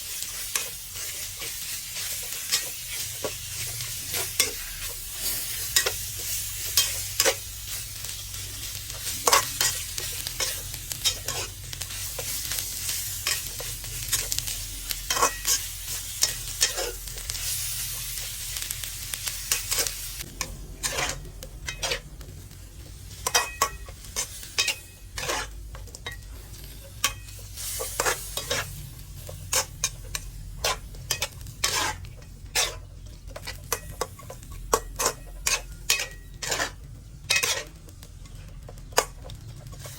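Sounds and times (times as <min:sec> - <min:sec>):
spatula scraping a pan: 0:00.0 - 0:22.2, 0:23.1 - 0:39.9
food sizzling in a pan: 0:00.0 - 0:39.9.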